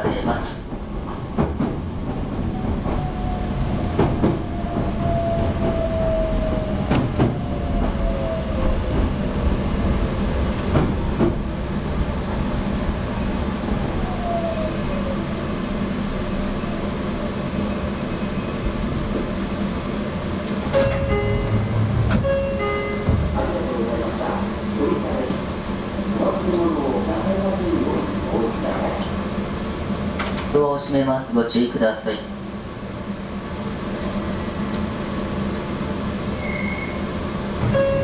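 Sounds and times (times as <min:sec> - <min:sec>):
train running noise: 0:00.0 - 0:38.0.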